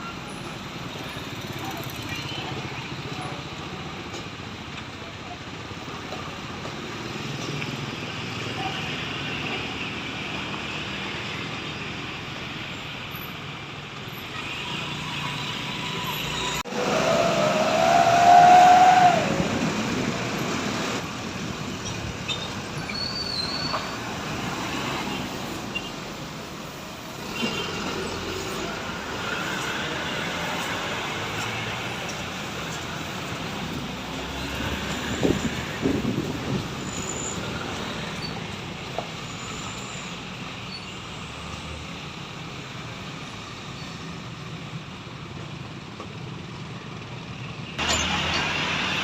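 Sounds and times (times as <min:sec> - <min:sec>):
passing buses: 0:00.0 - 0:49.0.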